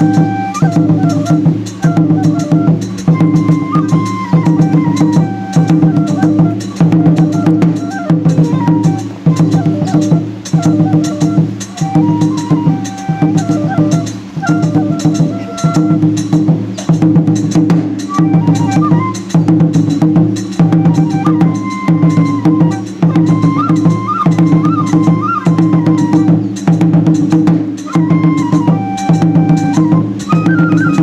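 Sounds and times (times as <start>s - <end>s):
high flute melody: 0.0s - 31.0s
rapid drumming: 0.0s - 31.0s.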